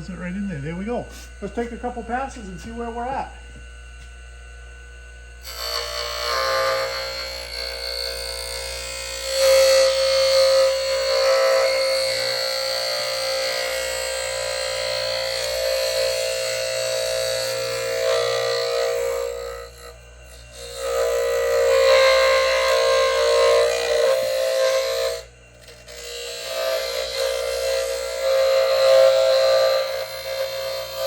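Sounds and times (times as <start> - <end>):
grinding wheel whine: 0.0 - 31.0.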